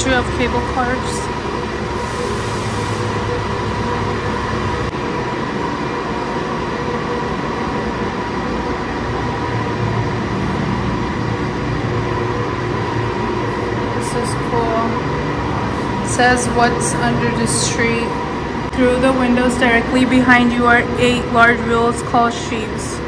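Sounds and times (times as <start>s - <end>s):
cable winding machinery running: 0.0s - 23.0s
steady mechanical tones: 0.0s - 23.0s.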